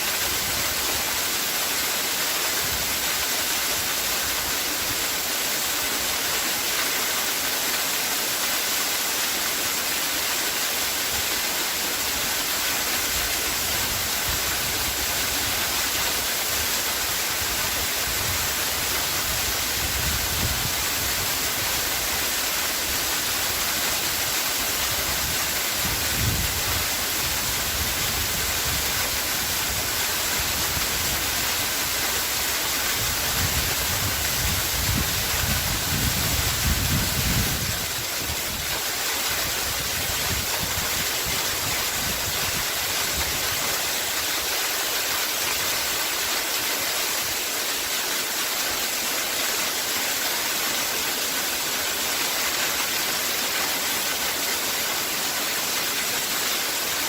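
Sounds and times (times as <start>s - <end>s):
waterfall: 0.0s - 57.0s.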